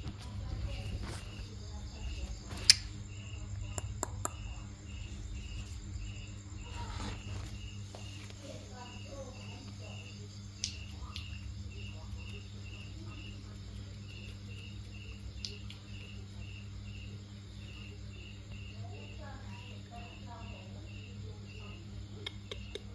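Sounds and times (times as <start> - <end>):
constant low hum: 0.0 - 22.9
cricket chirping: 0.0 - 22.9.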